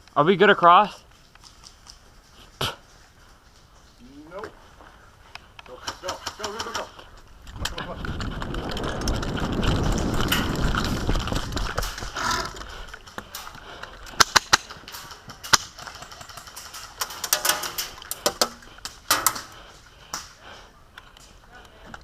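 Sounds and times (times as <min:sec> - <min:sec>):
rumbling movement and gear noise: 0:00.0 - 0:22.0.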